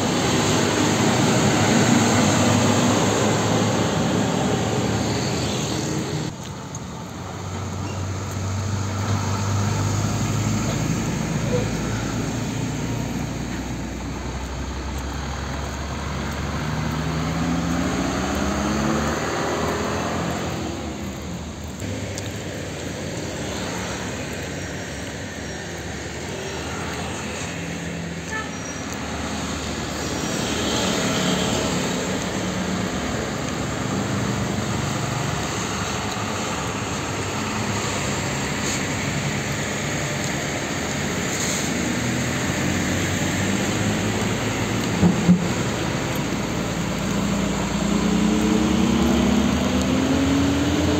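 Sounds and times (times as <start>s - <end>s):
diesel truck engines accelerating: 0.0s - 50.9s
steady road traffic: 0.0s - 50.9s.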